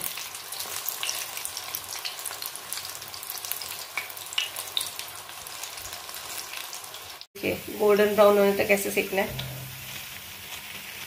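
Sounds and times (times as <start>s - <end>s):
food deep-frying in hot oil: 0.0s - 11.0s.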